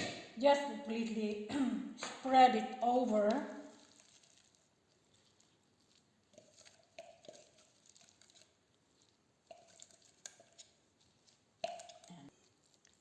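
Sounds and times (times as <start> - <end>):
soft squishing of gloved hands: 2.0 - 13.0.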